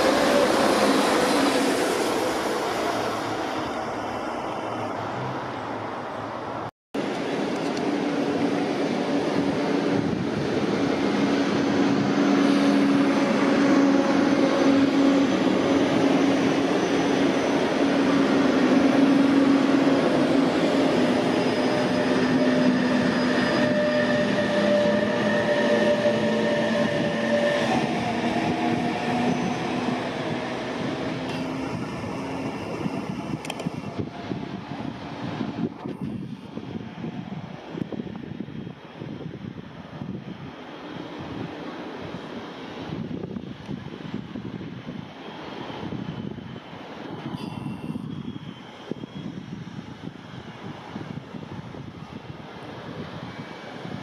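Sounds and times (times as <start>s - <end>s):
train wheels rumbling on rails: 0.0s - 5.6s, 7.0s - 54.0s
electric locomotive hum and whine: 0.0s - 54.0s.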